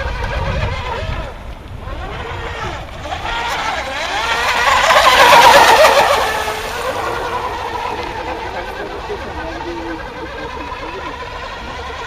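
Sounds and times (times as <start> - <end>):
model boat motor passing by: 0.0 - 12.0.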